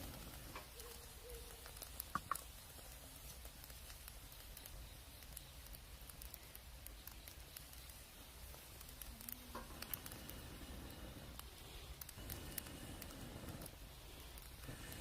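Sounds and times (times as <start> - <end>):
campfire crackling: 0.0 - 15.0
fire pops: 0.0 - 15.0.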